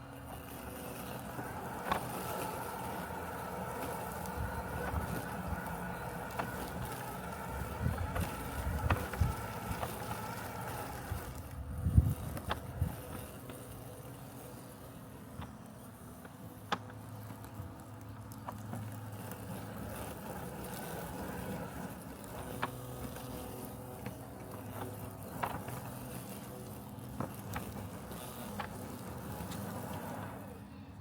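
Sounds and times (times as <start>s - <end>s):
robotic lawn mower humming: 0.0s - 31.0s.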